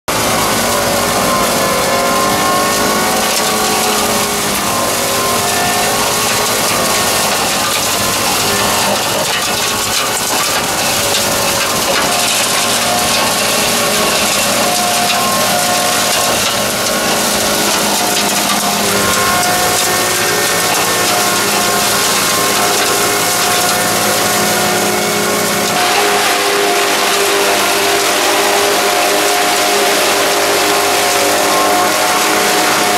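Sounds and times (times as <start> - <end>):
hedge trimmer whirring and hissing: 0.1 - 32.9
loader engine: 0.1 - 32.9.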